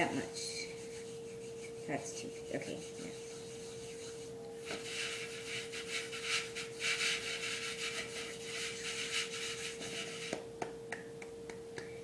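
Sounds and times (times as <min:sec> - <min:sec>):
hands rubbing dough: 0:00.0 - 0:10.5.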